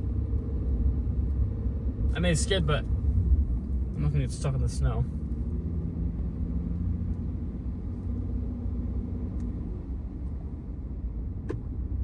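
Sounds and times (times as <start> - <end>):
faint engine hum: 0.0 - 12.0
truck rumble from inside cab: 0.0 - 12.0.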